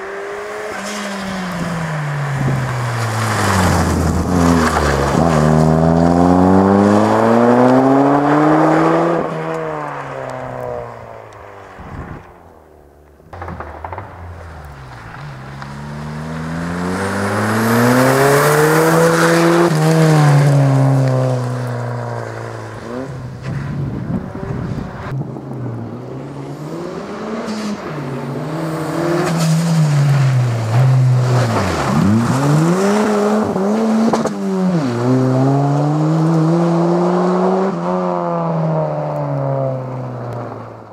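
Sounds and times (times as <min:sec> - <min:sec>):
rally car engine revving: 0:00.0 - 0:11.1, 0:13.3 - 0:40.8.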